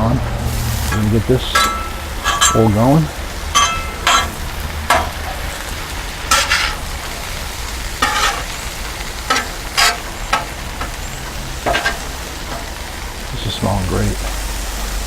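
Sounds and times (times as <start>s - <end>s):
vegetables sizzling on griddle: 0.0s - 15.0s
metal spatula scraping griddle: 0.4s - 12.8s.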